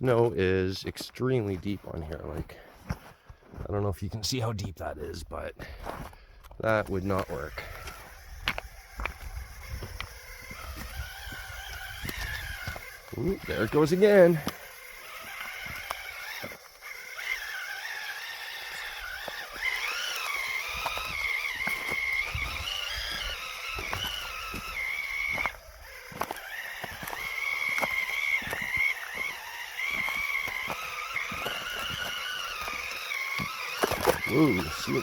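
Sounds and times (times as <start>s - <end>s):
electric motor whining: 5.8s - 35.0s.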